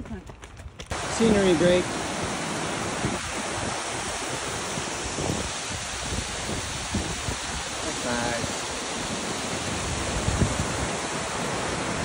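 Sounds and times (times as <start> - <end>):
waterfall rushing: 0.9 - 12.0.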